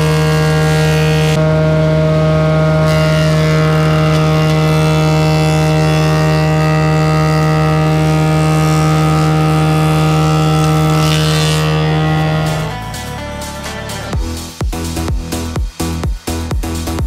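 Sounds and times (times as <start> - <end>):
woodworking machine running: 0.0 - 14.2.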